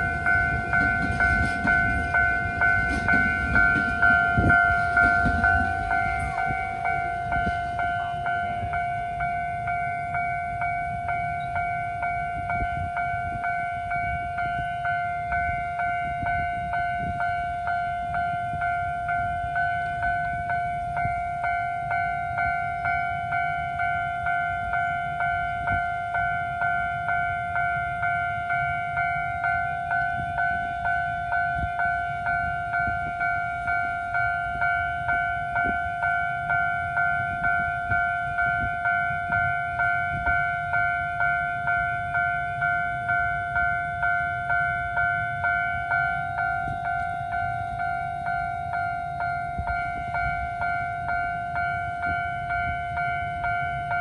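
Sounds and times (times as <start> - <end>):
level crossing warning bell: 0.0 - 54.0.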